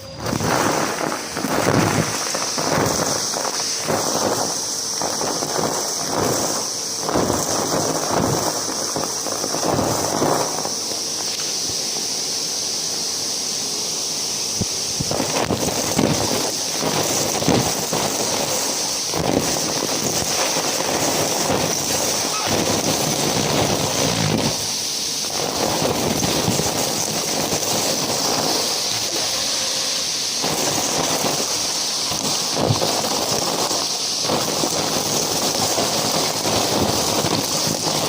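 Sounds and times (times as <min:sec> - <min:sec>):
debris crackling and rattling: 0:00.0 - 0:11.8, 0:14.6 - 0:38.0
vacuum cleaner running: 0:00.0 - 0:38.0.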